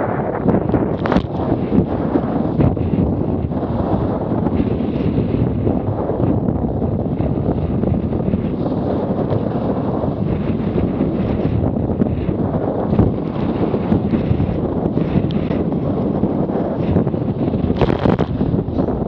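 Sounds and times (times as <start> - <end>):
wind buffeting microphone: 0.0 - 19.0
water splashing along hull: 0.1 - 19.0.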